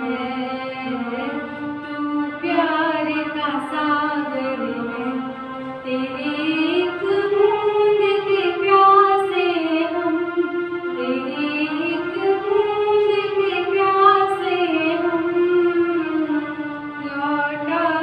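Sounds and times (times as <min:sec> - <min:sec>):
woman singing: 0:00.0 - 0:05.2, 0:05.8 - 0:10.3, 0:11.0 - 0:18.0.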